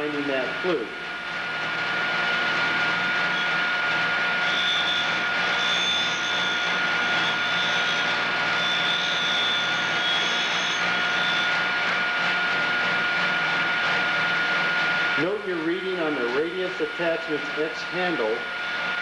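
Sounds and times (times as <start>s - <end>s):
grinding machine motor whirring: 0.0s - 19.0s.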